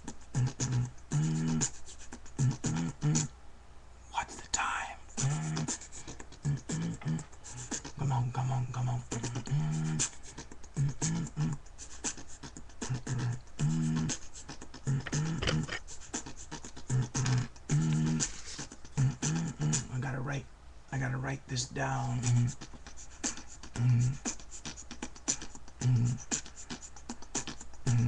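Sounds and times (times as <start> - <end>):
person beatboxing: 0.0 - 3.3, 4.2 - 20.4, 21.0 - 28.0.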